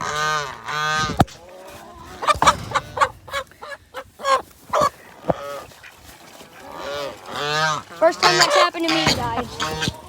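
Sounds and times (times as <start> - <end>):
goose honking: 0.0 - 10.0.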